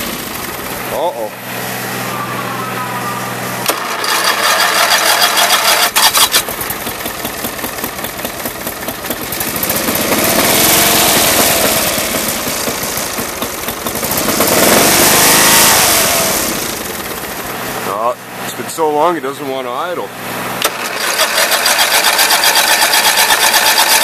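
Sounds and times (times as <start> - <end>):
mower engine running unevenly: 0.0 - 24.0.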